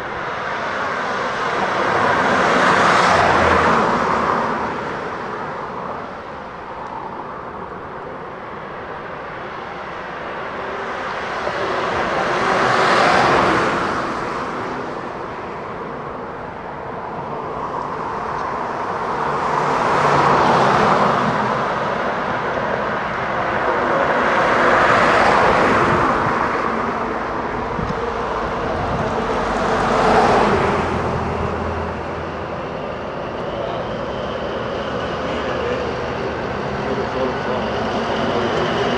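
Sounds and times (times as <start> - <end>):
diesel locomotive engine droning: 0.0 - 38.9
road vehicles passing: 0.0 - 38.9.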